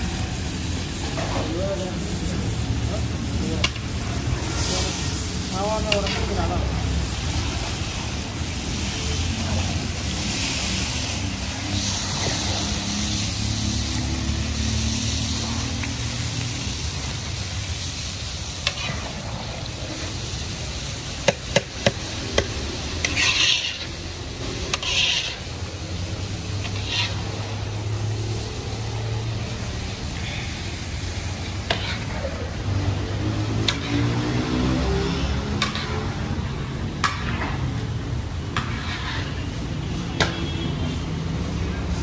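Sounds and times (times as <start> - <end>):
stirring in a cooking pot: 0.0 - 40.2
food sizzling in hot oil: 0.0 - 42.0.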